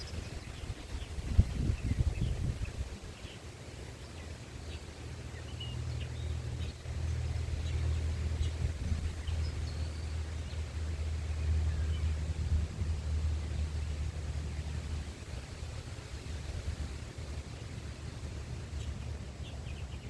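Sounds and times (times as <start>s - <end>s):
birds chirping: 0.0s - 15.5s, 17.5s - 20.0s
low steady rumble: 0.0s - 20.0s.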